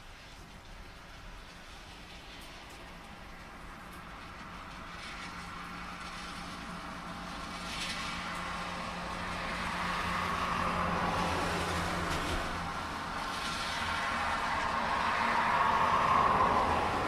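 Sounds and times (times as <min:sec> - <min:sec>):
car passing on wet road: 0:00.0 - 0:17.0
heavy rain: 0:00.0 - 0:17.0.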